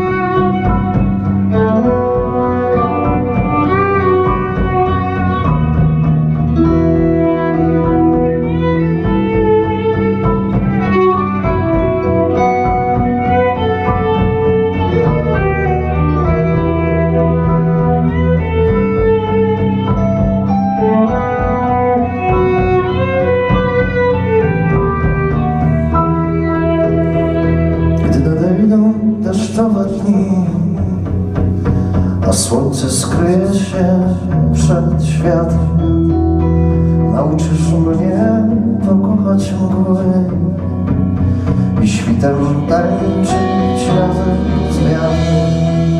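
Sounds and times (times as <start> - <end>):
acoustic band playing: 0.0 - 45.9.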